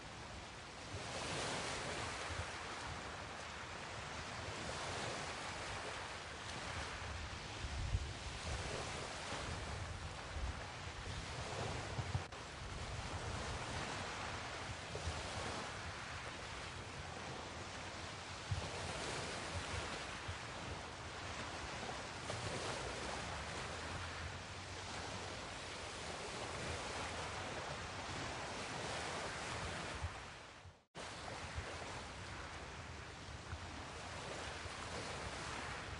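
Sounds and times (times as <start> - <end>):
small waves washing in: 0.0 - 35.9
wind on microphone: 0.0 - 35.9.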